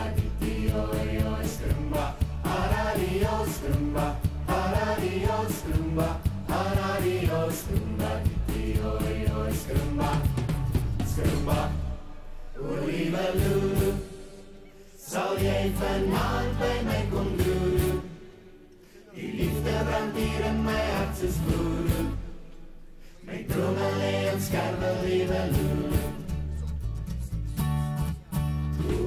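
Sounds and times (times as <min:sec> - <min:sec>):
voices singing with music: 0:00.0 - 0:27.0, 0:28.4 - 0:29.0.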